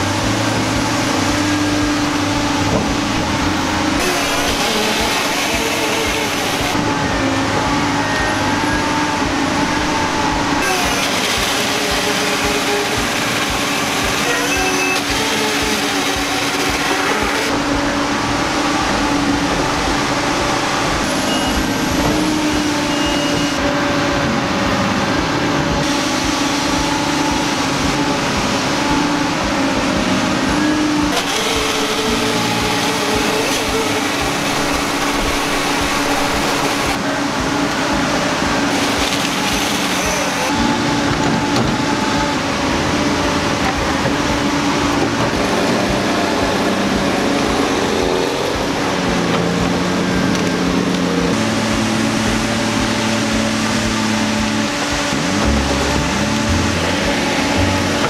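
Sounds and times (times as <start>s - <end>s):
heavy diesel machinery running: 0.0s - 58.0s
hydraulics whining: 0.0s - 58.0s.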